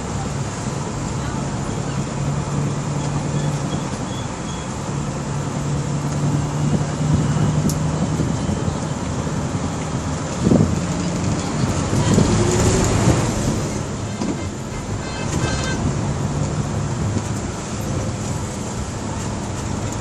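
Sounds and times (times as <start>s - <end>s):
bus engine running: 0.0s - 20.0s
road and tyre noise: 0.0s - 20.0s.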